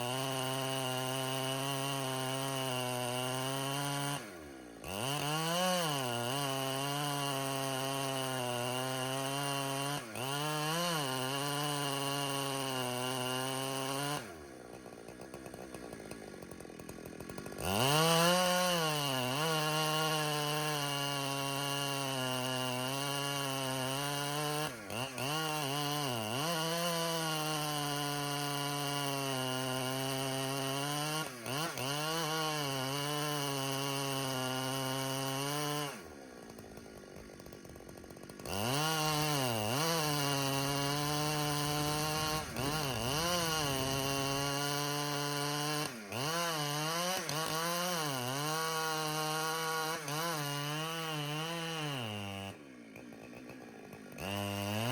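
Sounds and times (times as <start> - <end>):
chainsaw revving and cutting: 0.0 - 54.9.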